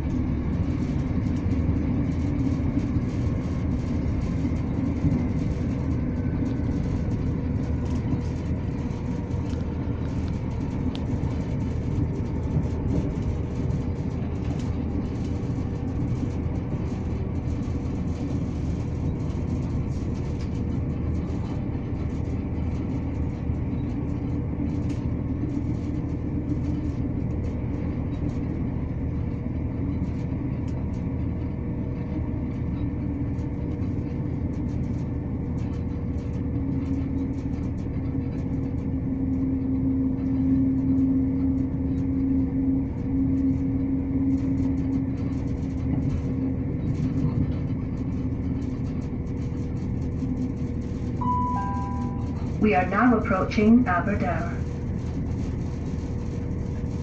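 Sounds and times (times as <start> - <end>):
train rumble on rails: 0.0 - 57.0.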